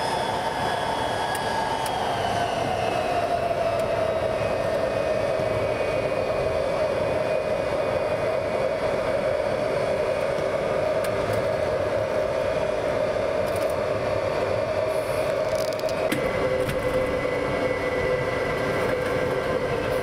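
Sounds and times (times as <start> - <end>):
jet engines droning: 0.0 - 20.0.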